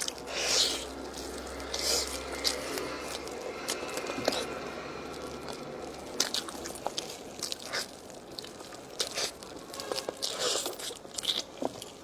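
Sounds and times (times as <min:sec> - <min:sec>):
person crunching and chewing: 0:00.0 - 0:12.0.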